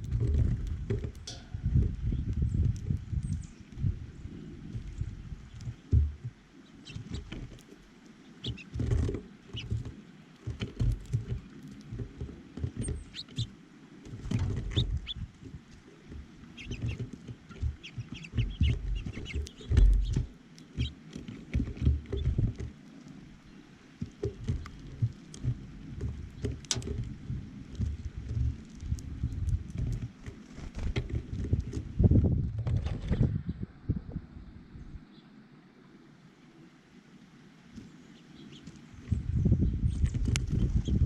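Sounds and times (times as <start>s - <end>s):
birds pecking and landing taps: 0.0s - 4.0s, 4.6s - 33.3s, 37.7s - 39.3s.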